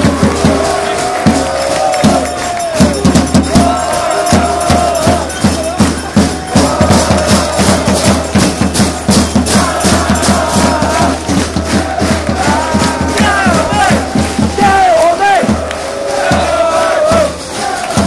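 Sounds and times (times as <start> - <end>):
crowd singing a chant: 0.0 - 18.0
fast rhythmic clapping: 0.0 - 18.0.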